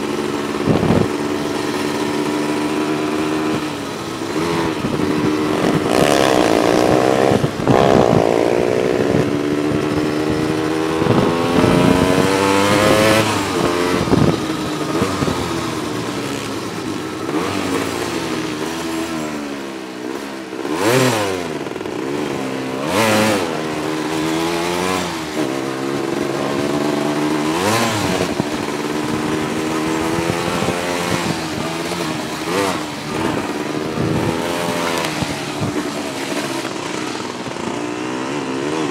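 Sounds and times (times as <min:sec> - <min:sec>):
atv engine revving: 0:00.0 - 0:38.9
loud rushes of noise: 0:00.0 - 0:38.9.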